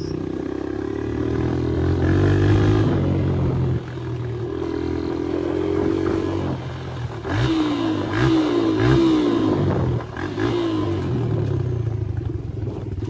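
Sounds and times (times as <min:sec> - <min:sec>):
dirt bike engine revving: 0:00.0 - 0:12.3.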